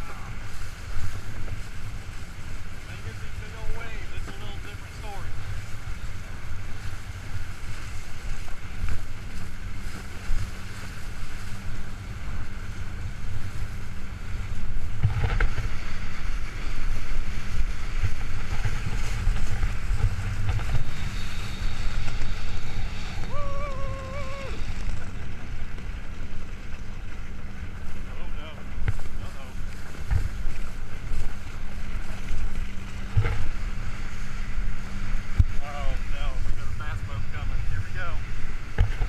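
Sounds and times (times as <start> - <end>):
motorboat engine rumble: 0.0 - 39.0
wind and water rushing: 0.0 - 39.0.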